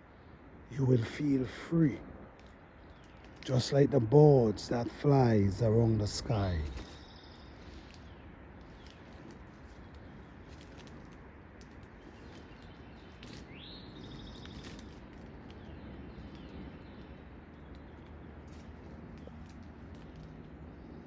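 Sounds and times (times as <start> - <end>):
birds chirping faintly: 0.0 - 21.0
outdoor background noise: 0.0 - 21.0.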